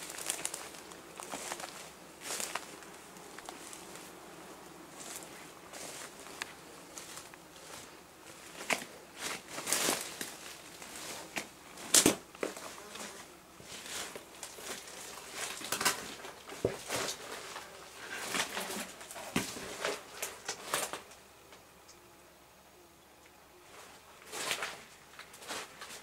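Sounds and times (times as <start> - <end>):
plants rustling and snapping: 0.0 - 4.1, 5.0 - 22.0, 23.8 - 26.0
footsteps crunching on debris: 0.0 - 21.1, 23.8 - 26.0.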